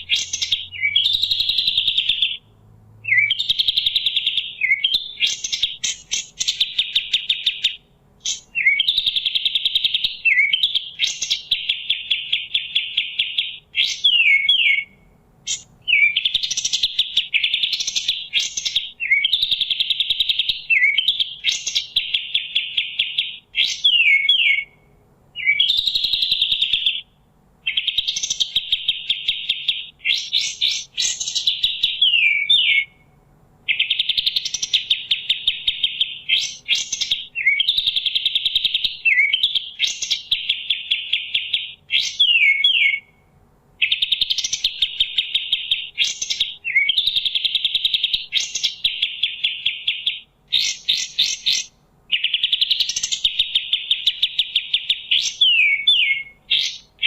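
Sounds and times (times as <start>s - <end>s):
songbird singing rapid trills: 0.0s - 33.1s, 33.7s - 57.0s.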